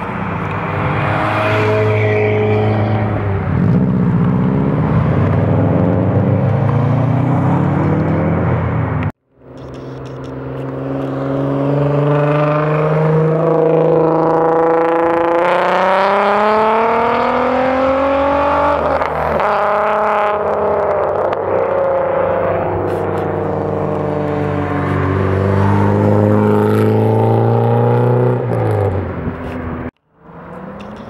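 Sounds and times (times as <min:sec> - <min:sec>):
car accelerating hard: 0:00.0 - 0:09.1, 0:10.3 - 0:31.0
car driving by: 0:00.0 - 0:31.0.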